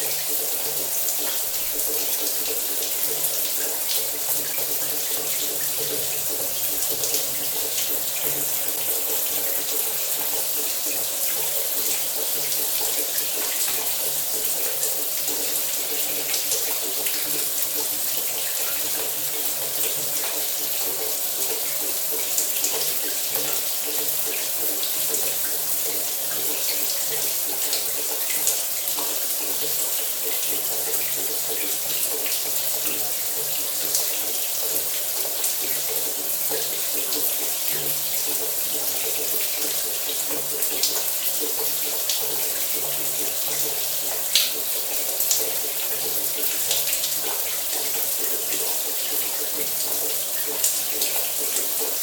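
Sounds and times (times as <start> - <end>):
shower spraying water: 0.0 - 52.0.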